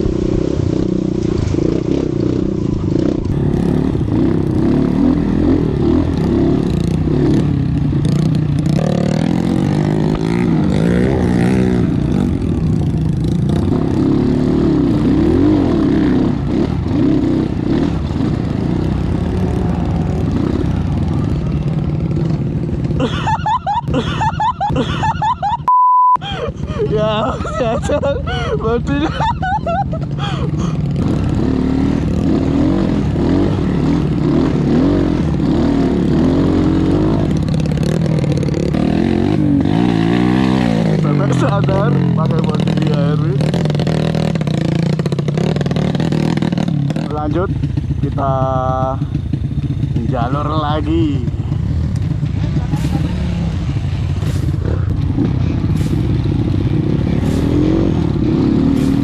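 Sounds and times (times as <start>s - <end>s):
motorcycle engine revving: 0.0s - 25.6s, 26.3s - 59.0s.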